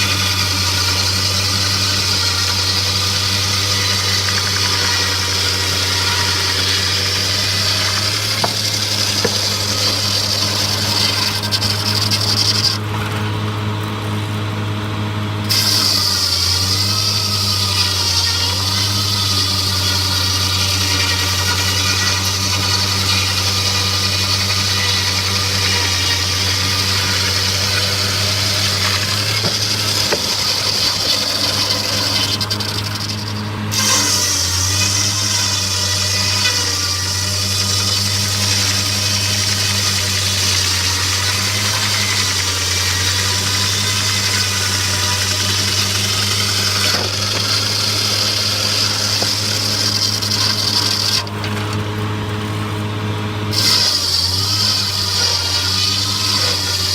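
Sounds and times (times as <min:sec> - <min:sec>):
sawmill machinery humming: 0:00.0 - 0:56.9.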